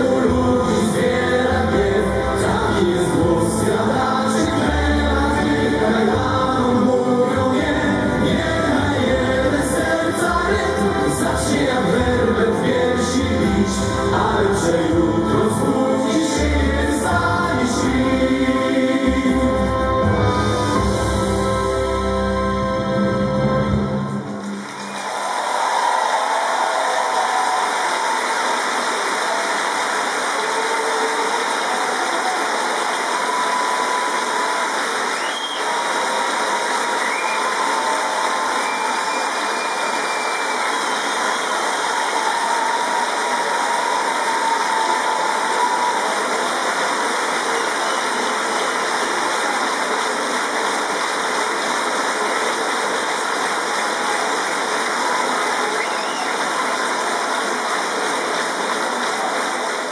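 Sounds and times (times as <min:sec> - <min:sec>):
audience applauding: 0:00.0 - 0:59.9.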